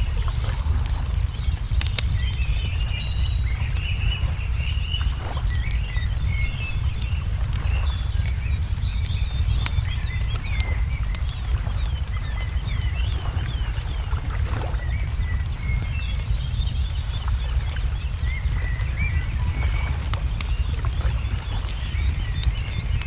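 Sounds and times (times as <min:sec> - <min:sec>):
deep rumble: 0:00.0 - 0:23.0
songbirds chirping: 0:00.0 - 0:23.0
wood fire crackling: 0:00.0 - 0:23.0.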